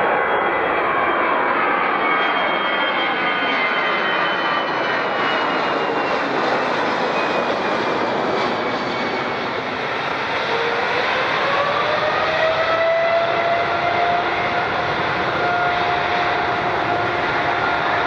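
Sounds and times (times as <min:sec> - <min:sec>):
jet engine whine: 0:00.0 - 0:18.0
jet engines roaring: 0:00.0 - 0:18.0.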